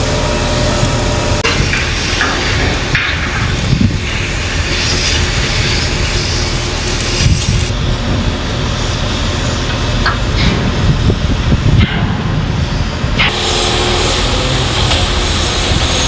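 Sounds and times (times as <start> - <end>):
heavy diesel machinery running: 0.0 - 16.0.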